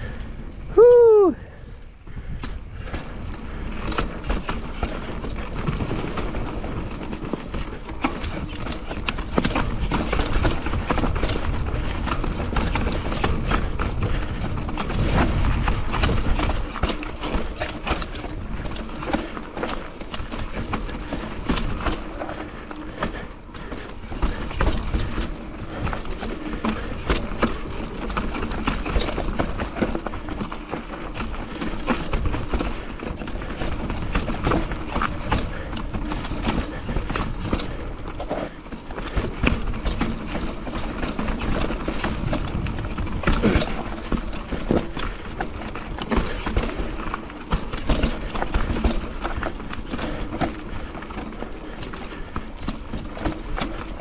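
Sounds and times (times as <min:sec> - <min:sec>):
bike rattling and knocking: 0:00.0 - 0:54.0
bike tyres clattering over rocks: 0:02.2 - 0:54.0.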